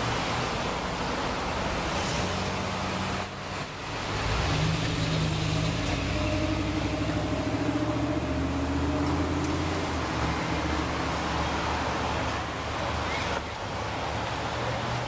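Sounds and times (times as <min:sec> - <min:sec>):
traffic passing with tyre hiss: 0:00.0 - 0:15.0
vehicle engine hum: 0:00.0 - 0:15.0.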